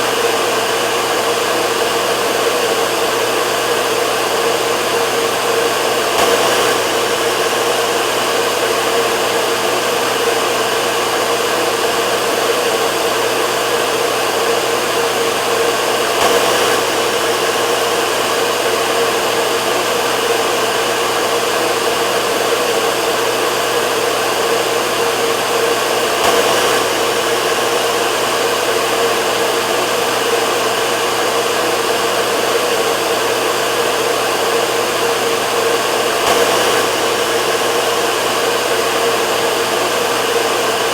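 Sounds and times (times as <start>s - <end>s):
hair dryer blowing air: 0.0s - 40.9s
hair dryer motor hum: 0.0s - 40.9s.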